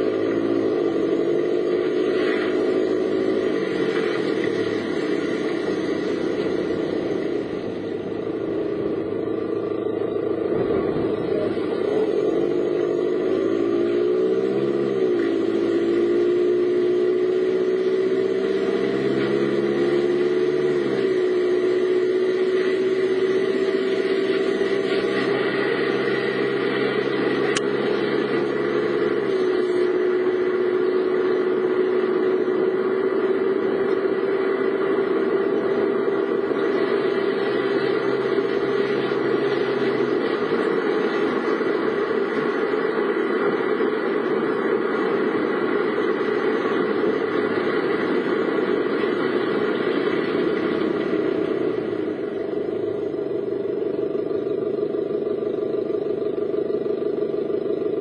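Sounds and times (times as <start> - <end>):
car engine driving: 0.0 - 58.0
road noise: 0.0 - 58.0.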